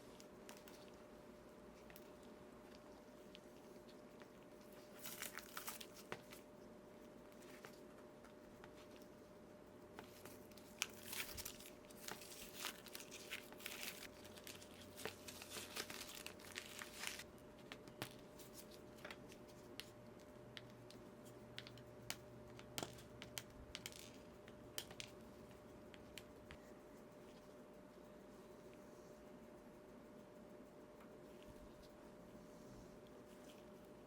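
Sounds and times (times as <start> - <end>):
solder crackling and sizzling: 0.0 - 30.1
faint steady hum: 0.0 - 34.0.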